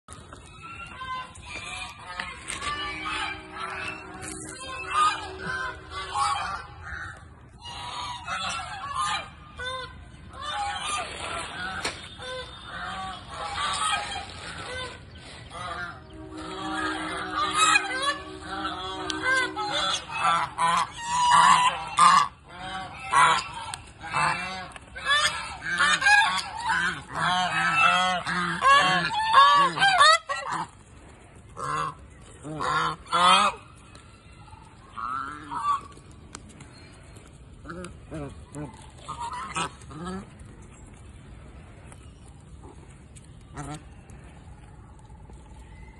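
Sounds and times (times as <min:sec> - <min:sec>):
ducks quacking: 0:00.9 - 0:30.9, 0:31.5 - 0:33.7, 0:34.9 - 0:37.0, 0:37.6 - 0:40.7, 0:42.6 - 0:44.4.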